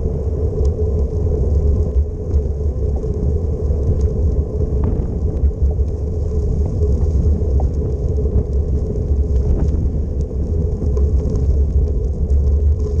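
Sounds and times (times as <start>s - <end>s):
wind rumbling on microphone: 0.0s - 13.0s
faint ticks: 0.4s - 13.0s.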